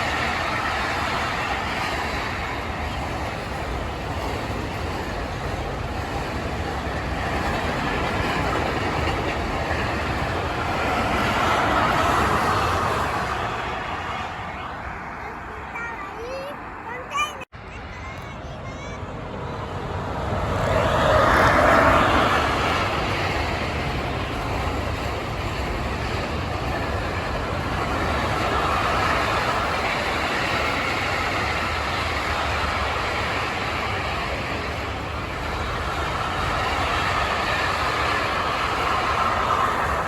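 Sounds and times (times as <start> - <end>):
freight train passing on rails: 0.0 - 40.0.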